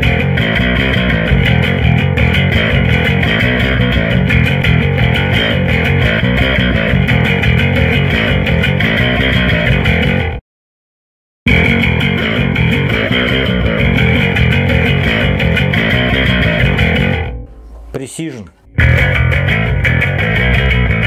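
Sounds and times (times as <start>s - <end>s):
electric bass guitar notes: 0.0s - 10.4s, 11.5s - 21.0s.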